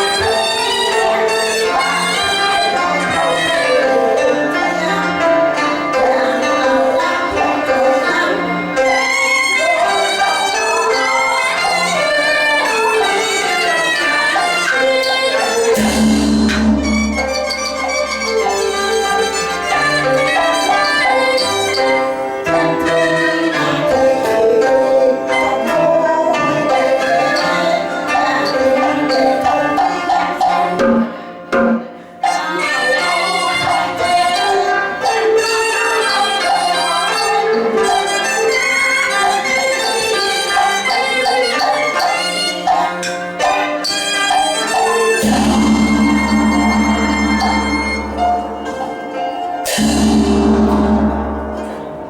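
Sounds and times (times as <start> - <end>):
bowed string melody: 0.0 - 52.0
opera ensemble playing: 0.0 - 52.0
wood-block beats: 0.0 - 52.0.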